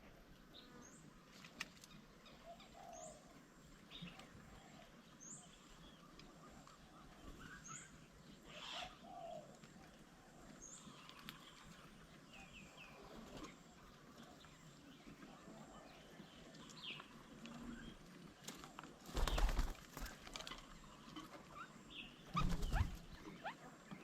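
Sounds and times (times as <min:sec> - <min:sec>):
faint birdsong: 0:00.0 - 0:24.0.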